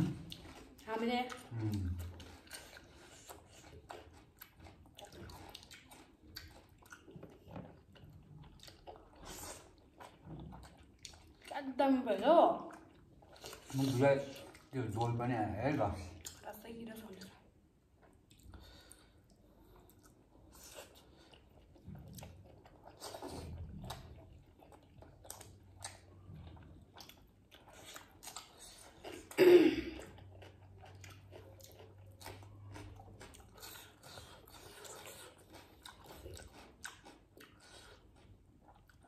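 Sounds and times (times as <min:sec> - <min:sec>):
people chewing food: 0:00.0 - 0:39.0.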